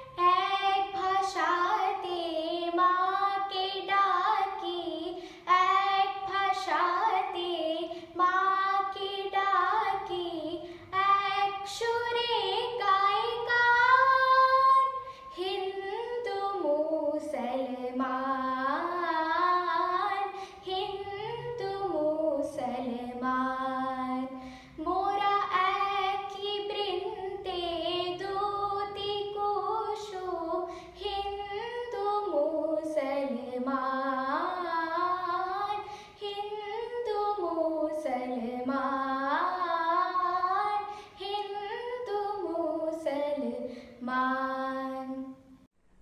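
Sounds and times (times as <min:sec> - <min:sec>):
child singing: 0:00.0 - 0:45.4.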